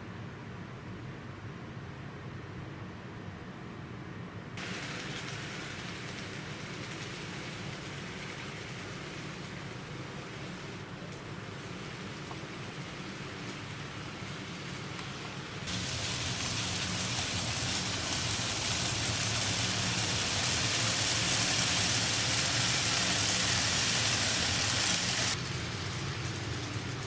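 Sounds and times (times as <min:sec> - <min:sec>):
model train rolling hiss: 0:04.6 - 0:27.0.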